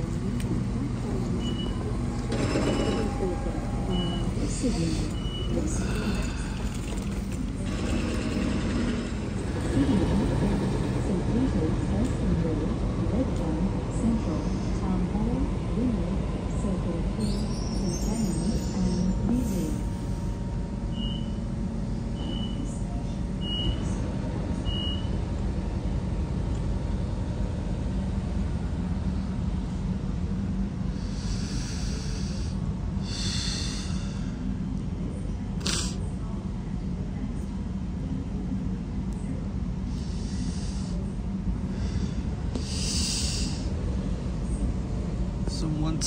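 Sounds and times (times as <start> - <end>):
vehicle engines rumbling: 0.0 - 25.4, 26.0 - 46.0.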